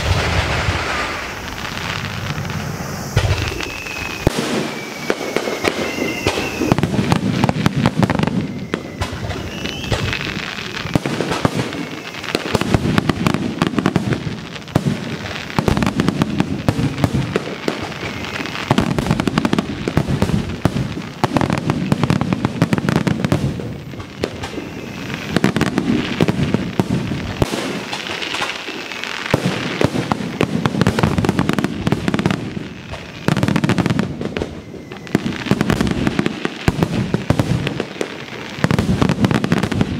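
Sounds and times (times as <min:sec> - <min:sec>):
firework bursts and booms: 0:00.0 - 0:39.9
firework whistles: 0:00.0 - 0:39.9.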